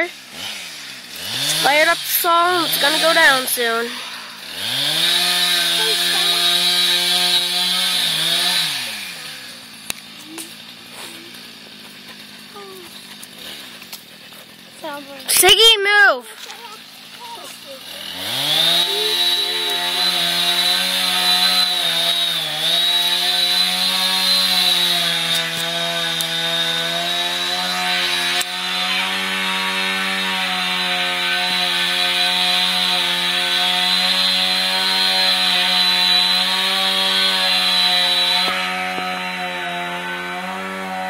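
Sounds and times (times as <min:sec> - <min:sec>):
chainsaw cutting tree trunk: 0:00.0 - 0:41.0.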